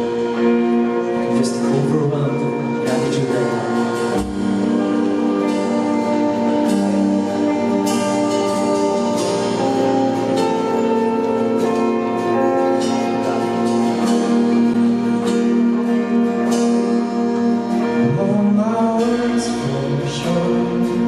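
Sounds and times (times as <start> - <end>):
band playing held chords: 0.0 - 21.0
strummed guitar: 0.0 - 21.0.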